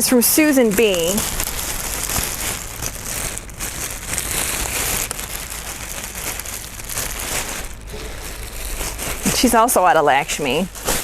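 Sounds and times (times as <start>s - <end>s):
crinkly rustling: 0.0s - 11.0s.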